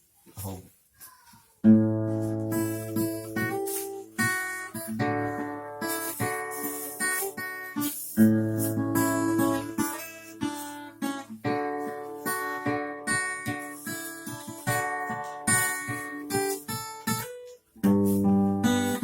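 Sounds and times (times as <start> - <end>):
acoustic guitar strumming: 1.6 - 19.0.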